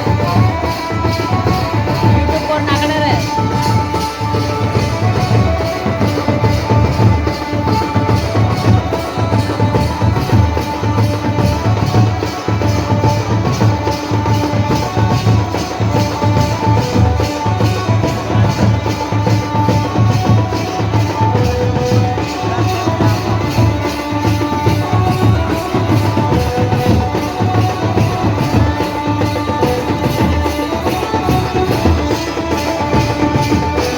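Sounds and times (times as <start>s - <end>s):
cymbal and percussion beat: 0.0s - 33.9s
drums: 0.0s - 33.9s
village band playing dance tune: 0.0s - 33.9s.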